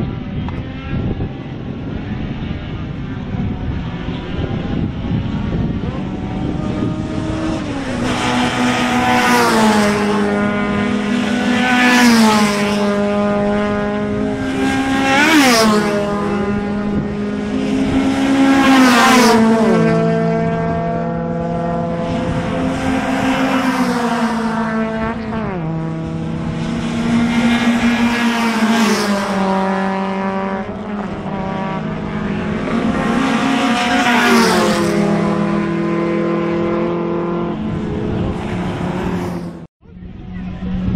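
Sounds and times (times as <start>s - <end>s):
racing cars passing at full throttle: 0.0s - 40.9s.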